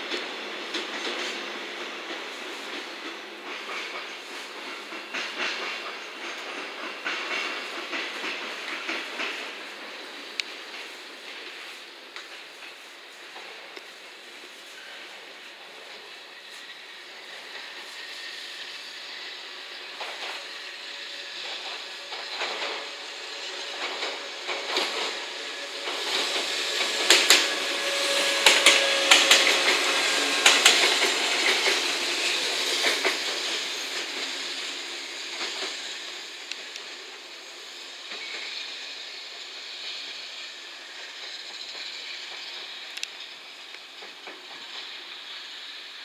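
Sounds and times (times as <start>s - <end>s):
train wheels clacking over rail joints: 0.0s - 45.9s
train rumble and hiss: 0.0s - 46.0s.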